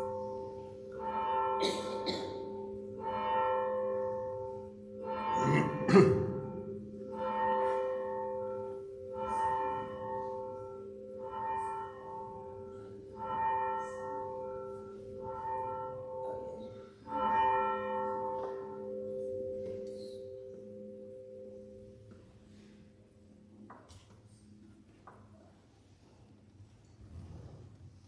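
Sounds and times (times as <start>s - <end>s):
church bell tolling: 0.0s - 23.6s.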